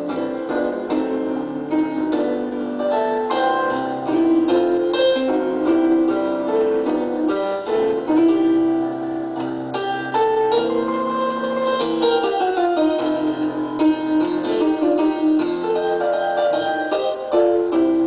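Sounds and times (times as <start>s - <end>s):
electronic keyboard piano chords: 0.0s - 18.0s.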